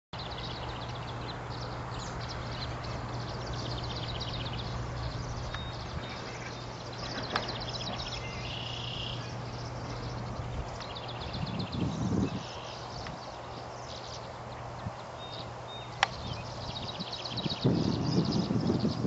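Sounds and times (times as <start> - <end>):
songbirds trilling: 0.2 - 19.0
steady low hum: 0.2 - 19.0.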